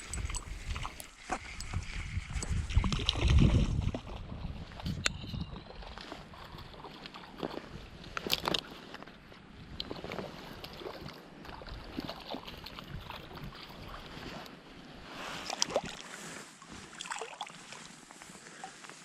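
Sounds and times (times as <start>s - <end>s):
water splashing from hooked fish: 0.0s - 8.7s, 9.7s - 14.4s, 15.4s - 16.2s, 16.9s - 17.9s.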